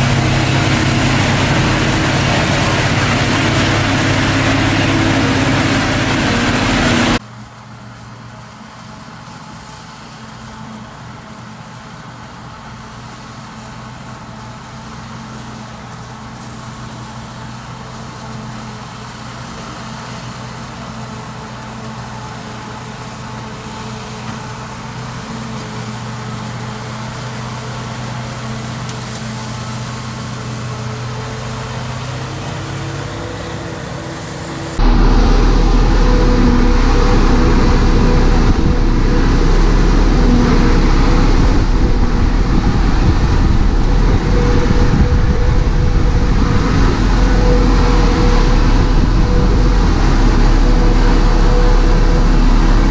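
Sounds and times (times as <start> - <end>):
farm machinery engine running: 0.0 - 7.2, 8.5 - 52.9.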